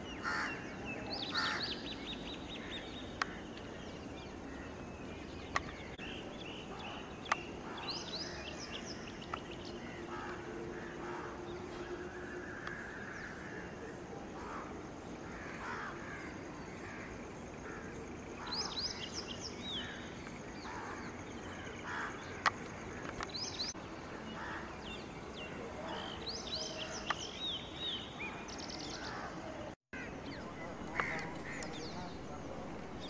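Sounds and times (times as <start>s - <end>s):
birds calling: 0.0s - 33.0s
steady outdoor noise: 0.0s - 33.0s.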